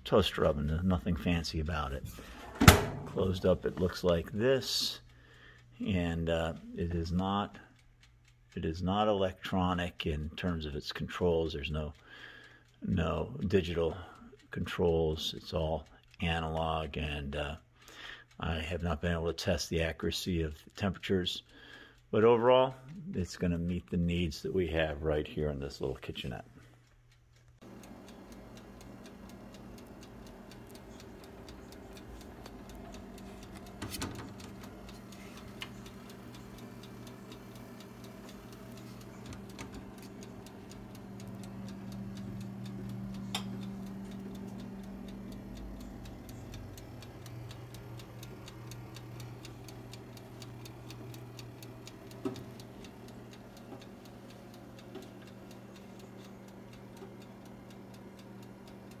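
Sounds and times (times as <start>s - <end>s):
wind-up timer ticking: 0.0s - 2.4s, 3.0s - 59.0s
low oven hum: 0.0s - 27.0s, 27.6s - 59.0s.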